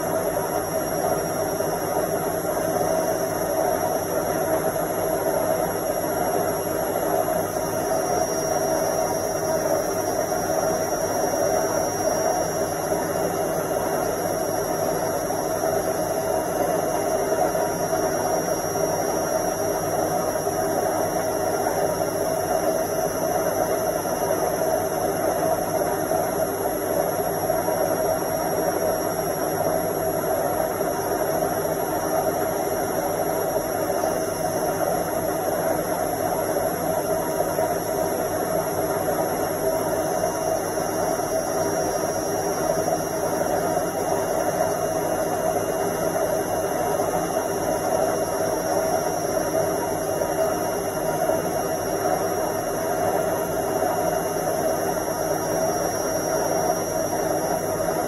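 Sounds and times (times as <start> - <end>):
thin high whine: 0.0 - 58.0
washing machine spinning: 0.0 - 58.0.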